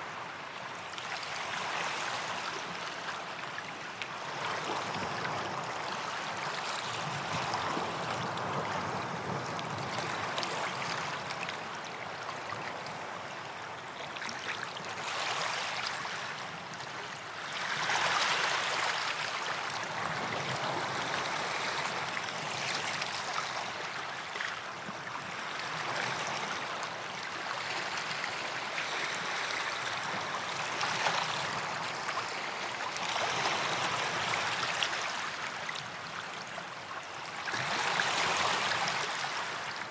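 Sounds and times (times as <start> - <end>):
waves washing onto a beach: 0.0 - 39.9.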